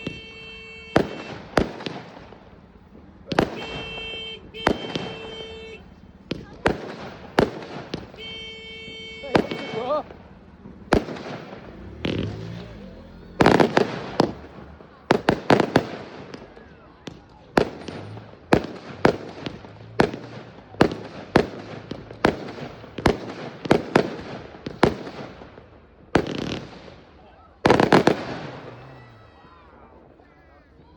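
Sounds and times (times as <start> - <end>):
fireworks exploding: 0.0 - 30.9.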